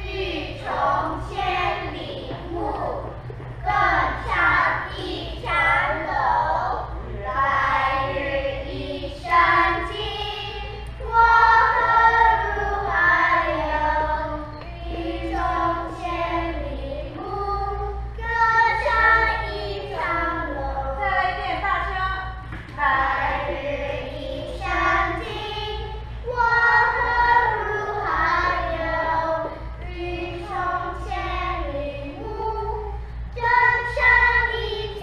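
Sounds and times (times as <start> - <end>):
children singing in unison: 0.0 - 21.0, 22.8 - 35.0.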